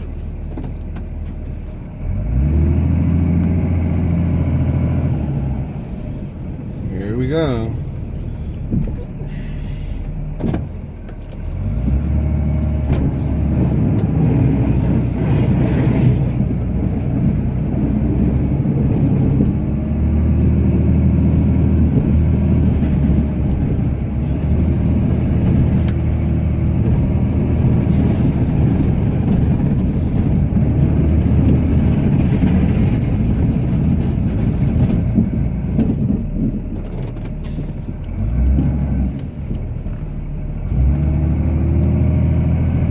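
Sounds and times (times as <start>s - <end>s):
diesel engine working under load: 0.0s - 42.9s.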